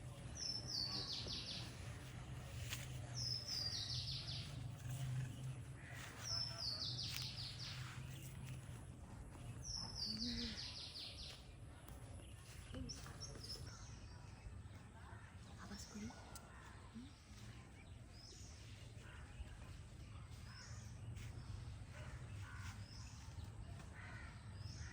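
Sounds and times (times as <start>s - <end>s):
songbird singing: 0.0s - 24.9s.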